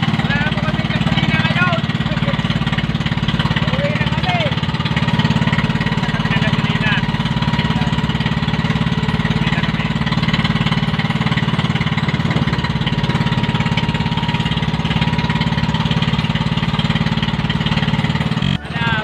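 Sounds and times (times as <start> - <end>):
boat engine puttering: 0.0 - 19.0.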